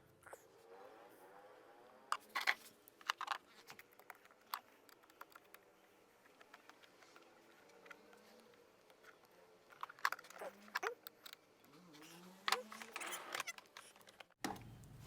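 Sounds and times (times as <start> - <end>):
small parts clicking and rattling: 2.1 - 15.0.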